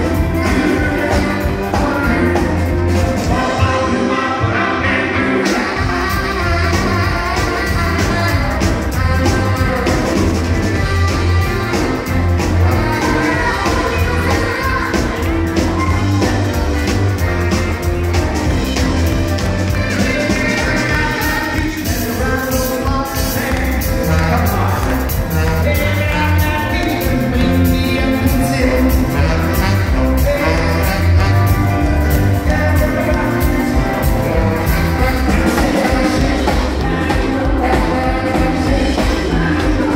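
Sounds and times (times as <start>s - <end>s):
steady drum beat: 0.0s - 4.1s, 5.4s - 39.9s
electric bass: 0.0s - 39.9s
live country rock band: 0.0s - 39.9s
person singing: 0.0s - 39.9s.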